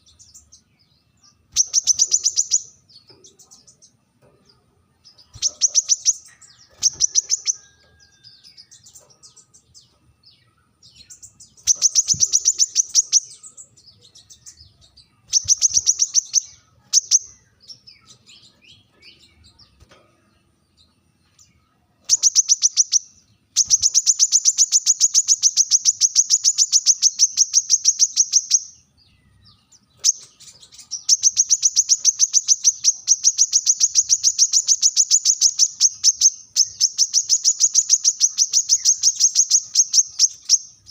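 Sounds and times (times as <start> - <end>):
bird high-pitched trills: 0.0 - 4.0, 5.1 - 20.0, 20.8 - 40.9
soft bird twittering: 0.0 - 40.9.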